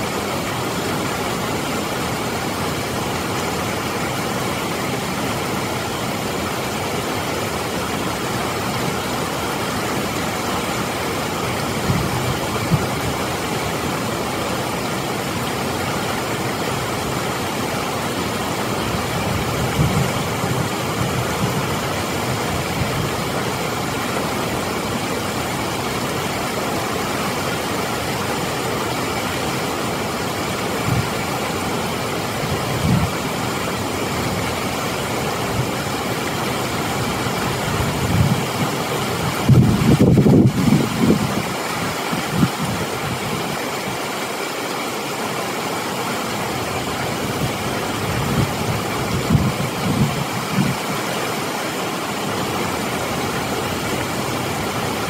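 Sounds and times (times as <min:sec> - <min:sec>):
water rushing over a weir: 0:00.0 - 0:55.0.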